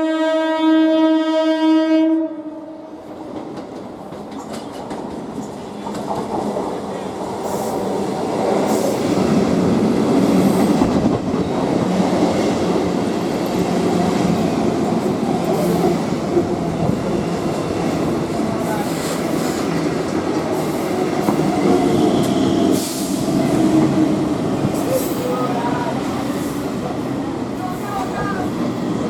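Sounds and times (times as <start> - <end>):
train wheels rumbling on rails: 3.0 - 29.0.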